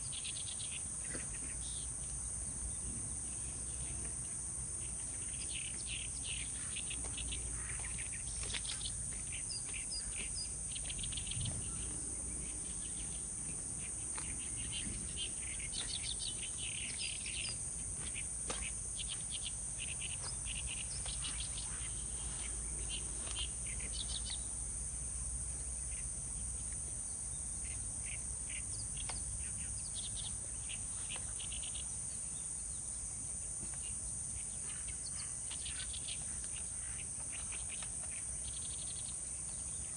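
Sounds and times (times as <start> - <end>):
faint low hum: 0.0 - 39.9
high-pitched insect drone: 0.0 - 39.9.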